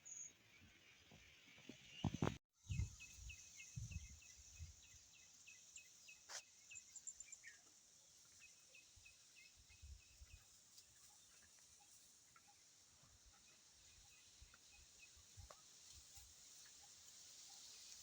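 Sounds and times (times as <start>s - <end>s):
insect hiss: 2.8s - 18.0s.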